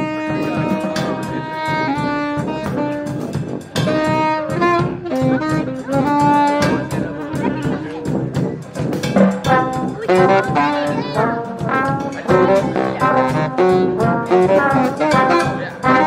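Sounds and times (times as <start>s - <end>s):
brass band playing: 0.0s - 16.0s
steady drumbeat: 0.0s - 16.0s.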